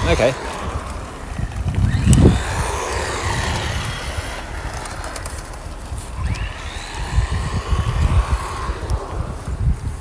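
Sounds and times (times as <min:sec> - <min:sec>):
electric motor whine: 0:00.0 - 0:10.0
wind rumble on microphone: 0:00.0 - 0:10.0.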